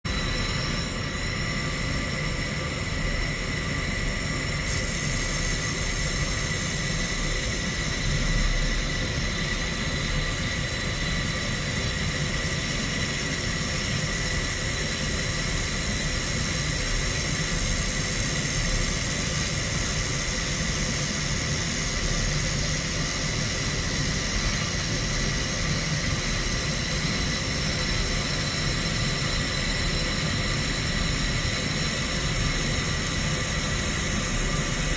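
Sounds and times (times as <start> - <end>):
welder machine hum with whining tones: 0.0 - 34.9.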